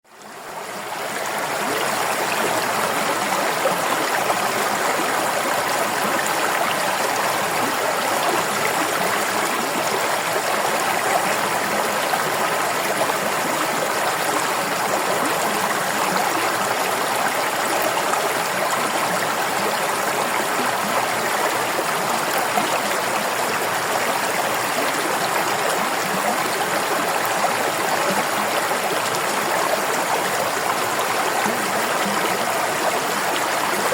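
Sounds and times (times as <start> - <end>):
river water rushing over rocks: 0.2 - 33.9.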